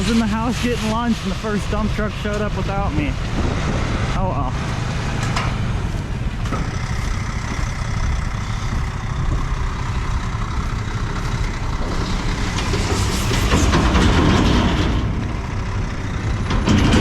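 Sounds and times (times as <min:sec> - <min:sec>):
large diesel engine running: 0:00.0 - 0:17.0.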